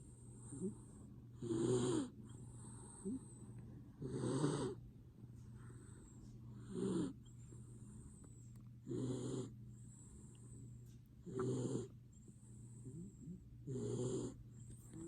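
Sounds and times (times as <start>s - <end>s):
dog snoring: 0.0s - 4.8s, 5.7s - 15.0s.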